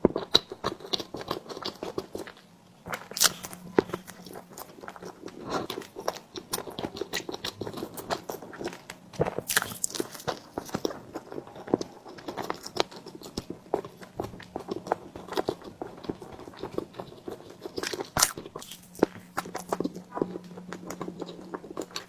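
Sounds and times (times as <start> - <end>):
chewing and mouth sounds: 0.0 - 22.0.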